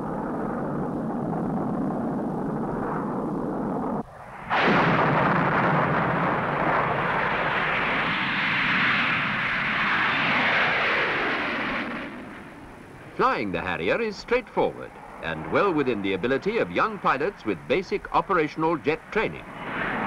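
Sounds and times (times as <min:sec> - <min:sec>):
low rumble: 0:00.0 - 0:17.9
jet engines roaring: 0:00.0 - 0:20.0.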